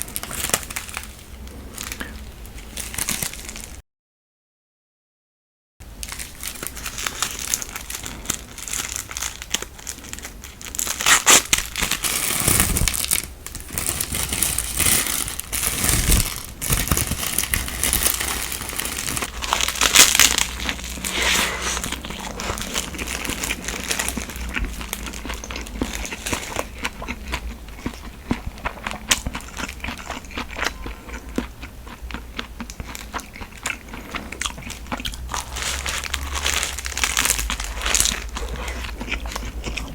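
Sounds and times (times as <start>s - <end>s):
plastic packaging crinkling and tearing: 0.0s - 3.8s, 5.9s - 31.5s, 32.7s - 39.9s.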